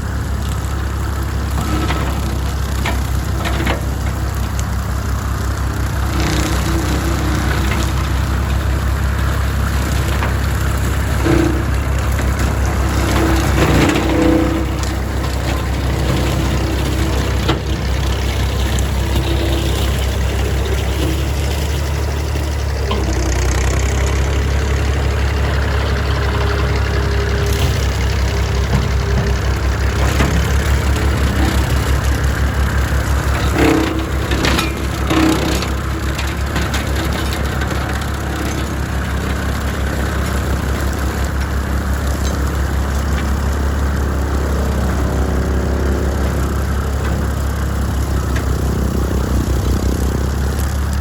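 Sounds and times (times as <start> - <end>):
tractor engine running under load: 0.0 - 51.0.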